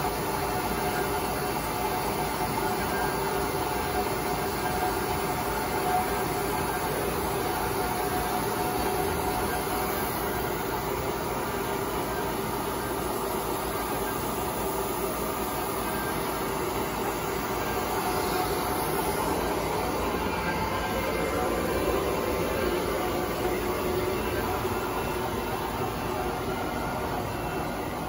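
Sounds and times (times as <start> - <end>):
vacuum pump humming: 0.0 - 28.0.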